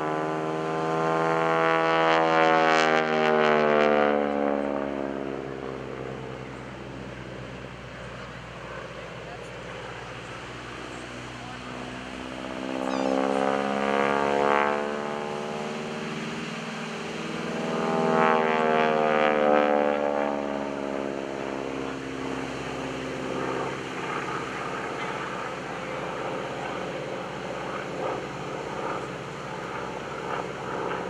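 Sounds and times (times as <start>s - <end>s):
radial aircraft engine and propeller: 0.0s - 31.0s.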